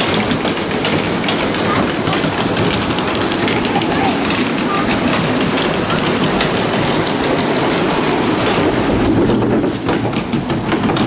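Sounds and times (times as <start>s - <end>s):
chain lift clattering: 0.0s - 11.0s.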